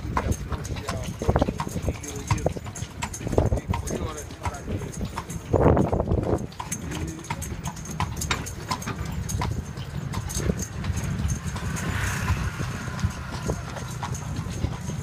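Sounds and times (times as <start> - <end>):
carriage wheels rumbling: 0.0 - 15.0
hooves clip-clopping on pavement: 0.0 - 15.0.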